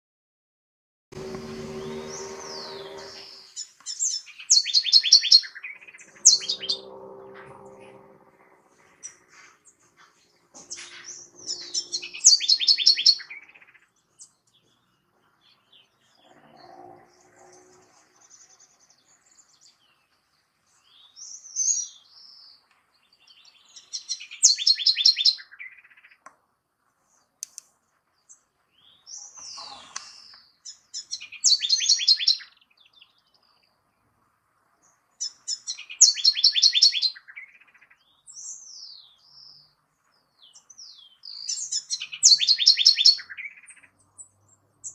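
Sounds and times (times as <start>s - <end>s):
wren singing: 1.2s - 20.0s, 23.3s - 25.6s, 28.3s - 33.5s, 35.2s - 44.9s.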